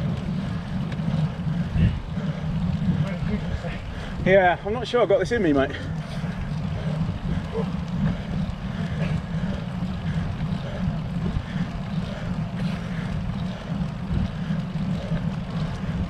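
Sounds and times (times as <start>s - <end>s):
wind and road rumble: 0.0s - 16.0s.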